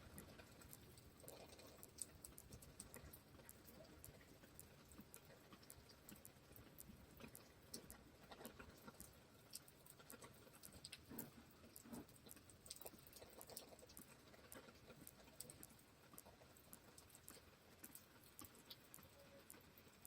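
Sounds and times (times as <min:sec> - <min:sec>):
faint rain pattering: 0:00.0 - 0:20.0.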